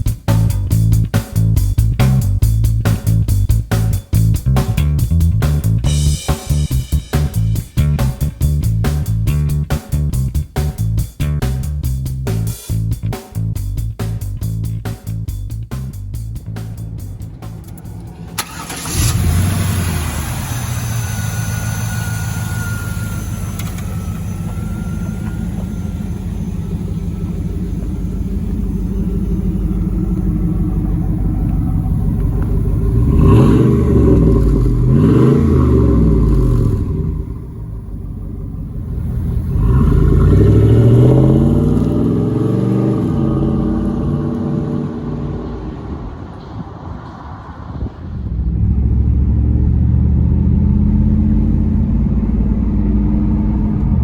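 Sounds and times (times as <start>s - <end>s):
car engine idling: 0.0s - 54.0s
car engine starting: 0.0s - 54.0s.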